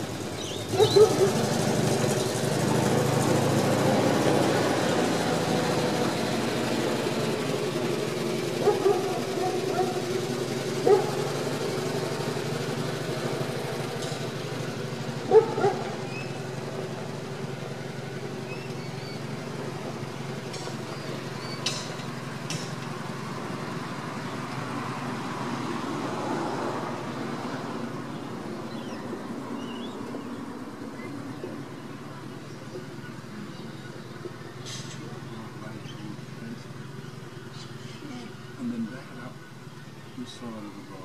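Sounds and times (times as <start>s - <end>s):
truck engine driving away: 0.0s - 41.0s.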